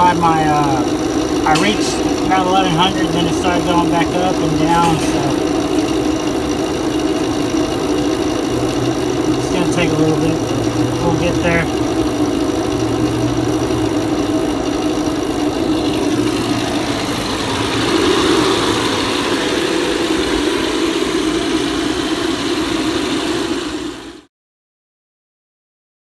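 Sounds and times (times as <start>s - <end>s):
vacuum pump humming: 0.0s - 24.3s.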